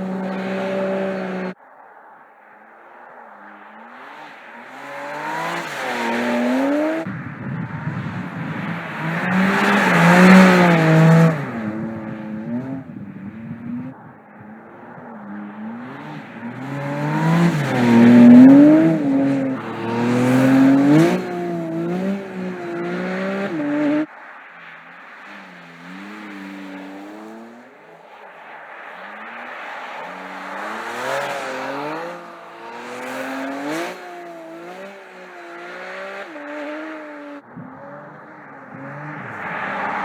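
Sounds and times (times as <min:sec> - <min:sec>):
car engine accelerating hard: 0:00.0 - 0:01.6, 0:02.9 - 0:40.0.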